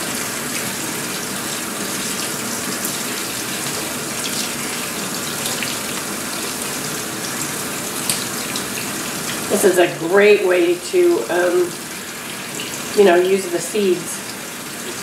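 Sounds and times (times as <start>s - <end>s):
faucet running water: 0.0s - 15.0s.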